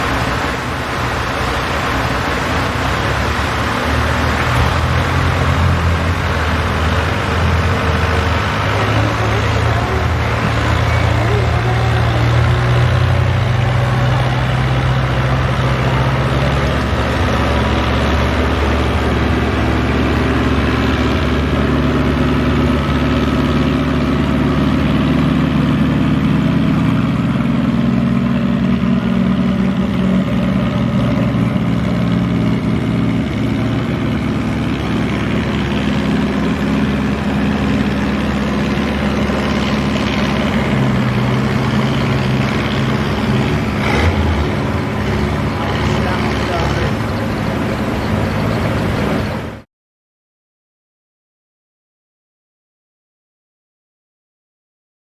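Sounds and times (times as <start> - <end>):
diesel tractor engine under load: 0.0 - 49.7.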